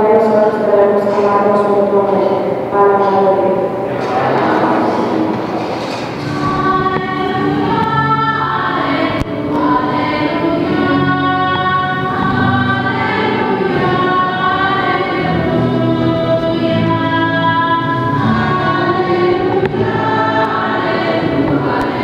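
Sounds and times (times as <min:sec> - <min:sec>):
choir singing a hymn: 0:03.0 - 0:22.0.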